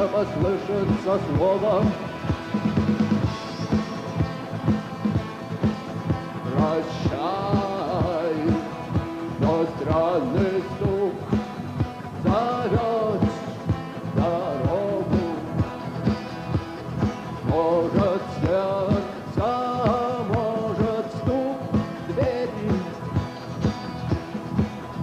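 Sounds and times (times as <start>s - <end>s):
rock band playing live: 0.0s - 25.0s
steady drum beat: 0.0s - 25.0s.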